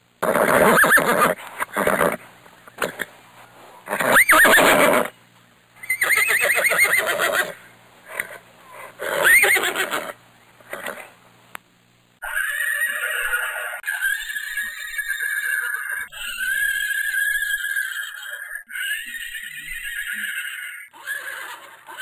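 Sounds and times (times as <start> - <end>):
horse neighing: 0.2 - 3.1, 3.9 - 5.1, 5.8 - 11.1, 12.2 - 22.0.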